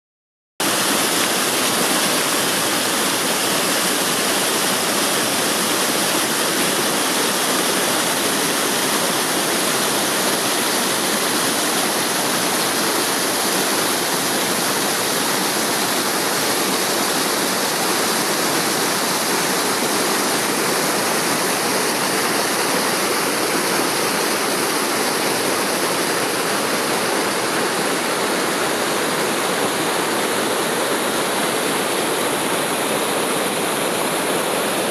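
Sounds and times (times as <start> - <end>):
waterfall pouring over rock: 0.6 - 34.9.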